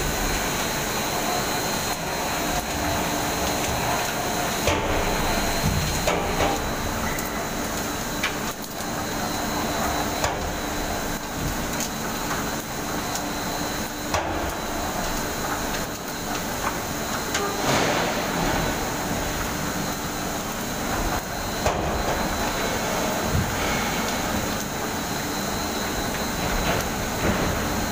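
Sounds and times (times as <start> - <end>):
conveyor clatter and rumble: 0.0 - 27.9.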